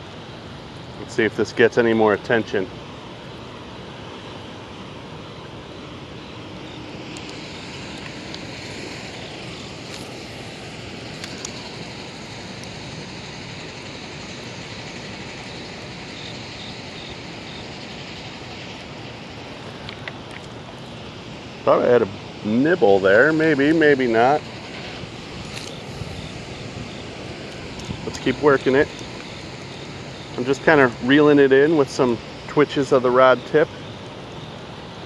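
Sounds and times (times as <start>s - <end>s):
rushing turbulent water: 0.0s - 35.0s.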